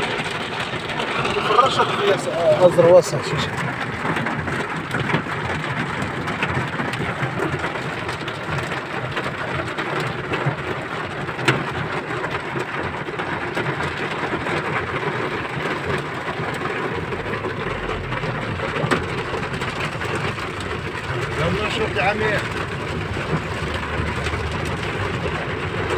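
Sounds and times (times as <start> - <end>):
heavy rain hissing and drumming: 0.0 - 25.9.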